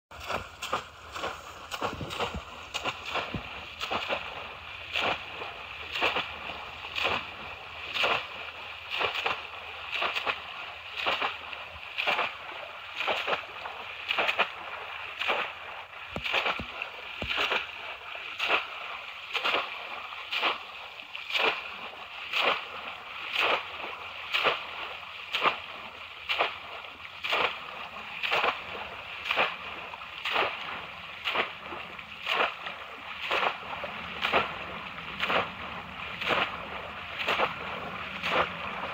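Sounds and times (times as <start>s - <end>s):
fish traps splashing into water: 0.1s - 38.9s.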